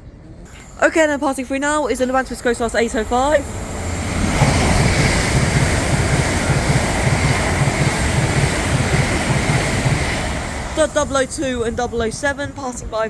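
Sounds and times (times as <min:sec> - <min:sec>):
train rushing past: 0:00.4 - 0:13.0
wheels beating on rails: 0:01.1 - 0:13.0.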